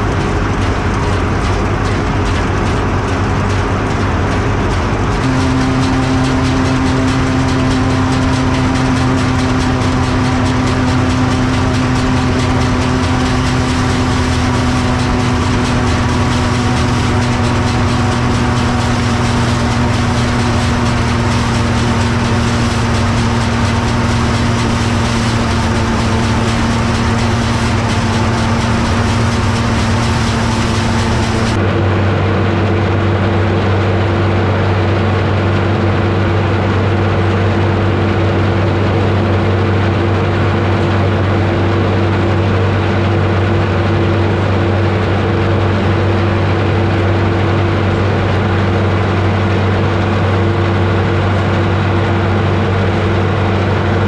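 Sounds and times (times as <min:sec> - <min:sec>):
combine harvester machinery hum: 0:00.0 - 0:54.0.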